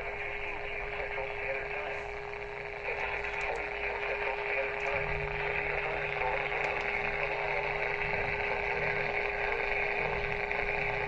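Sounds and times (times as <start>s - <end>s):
constant whine: 0.0s - 11.0s
low hum: 0.0s - 11.0s
radio hiss and static: 0.0s - 11.0s.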